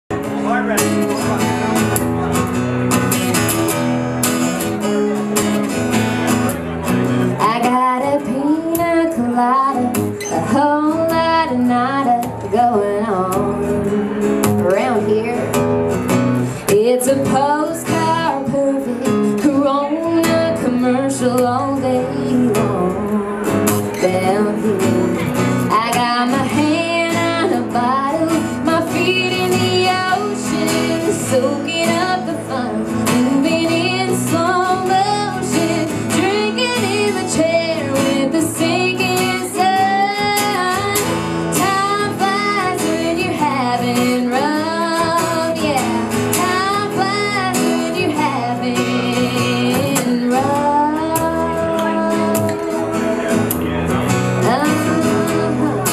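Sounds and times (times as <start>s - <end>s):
strummed acoustic guitars: 0.1s - 55.9s
woman singing country song: 1.2s - 55.9s.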